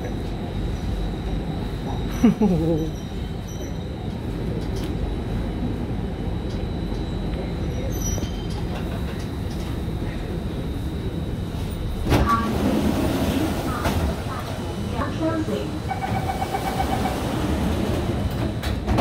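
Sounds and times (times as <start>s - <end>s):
train traction motor noise: 0.0s - 19.0s.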